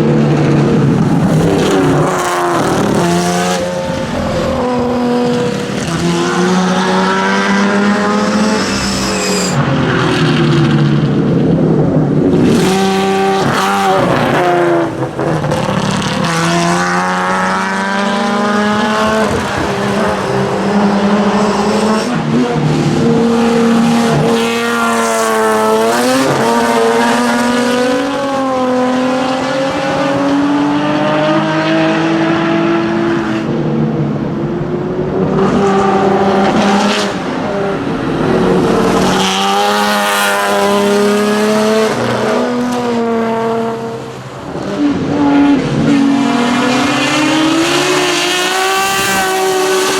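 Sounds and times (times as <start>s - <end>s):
racing car engine accelerating: 0.0s - 49.9s.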